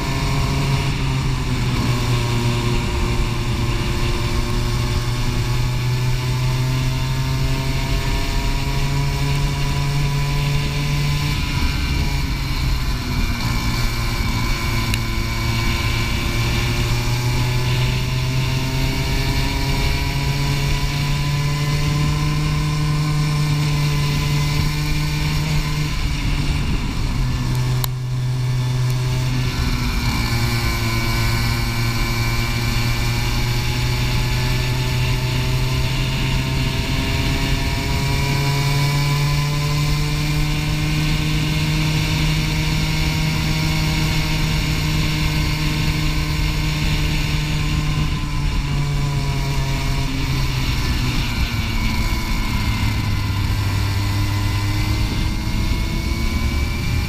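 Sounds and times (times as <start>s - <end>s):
go-kart engine at racing speed: 0.0s - 57.0s.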